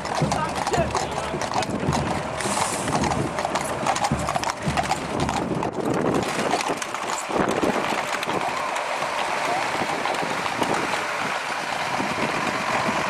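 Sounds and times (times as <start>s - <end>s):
horse hooves clip-clopping on concrete: 0.0s - 13.0s.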